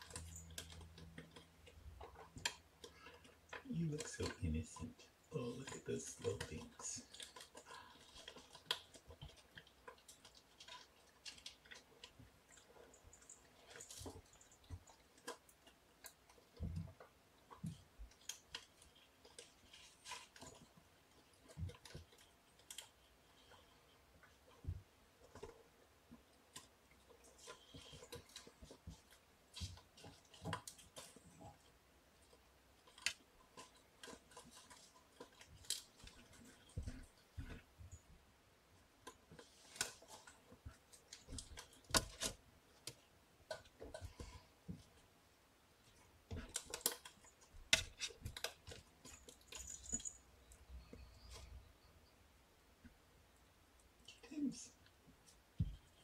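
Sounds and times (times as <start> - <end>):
kittens playing on floor: 0.0 - 56.0.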